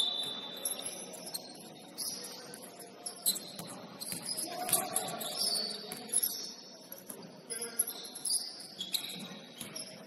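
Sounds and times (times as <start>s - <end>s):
sneakers squeaking on gym floor: 0.0s - 10.0s.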